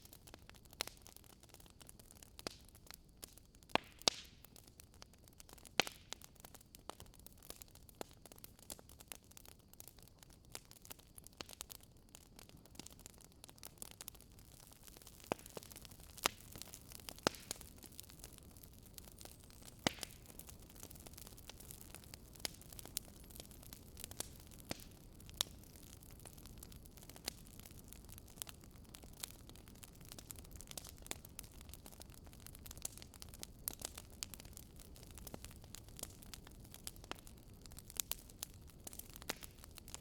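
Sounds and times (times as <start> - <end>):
low rumble of flame: 0.0 - 40.0
wood crackling and popping: 0.0 - 40.0.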